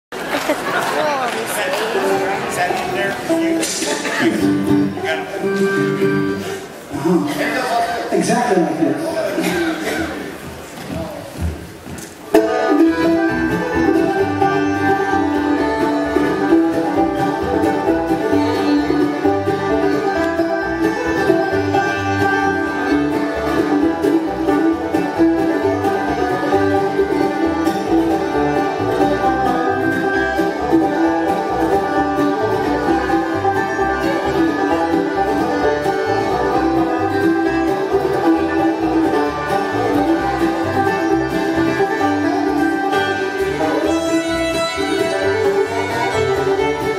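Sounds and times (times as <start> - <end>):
bluegrass band playing: 0.1 - 46.9.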